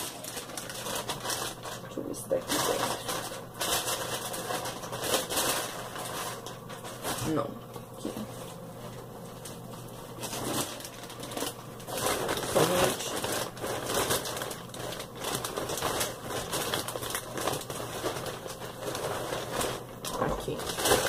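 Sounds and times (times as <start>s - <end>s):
craft supplies rustling and crinkling: 0.0s - 7.5s, 8.2s - 21.0s.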